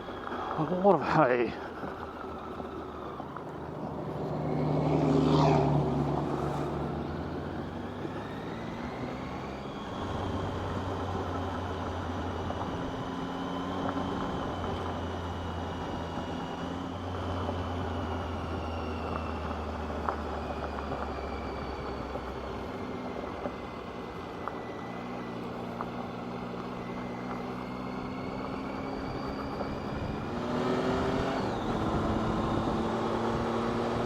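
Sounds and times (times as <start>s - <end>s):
motorcycle engine cruising: 0.0s - 34.0s
road and wind noise: 0.0s - 34.0s.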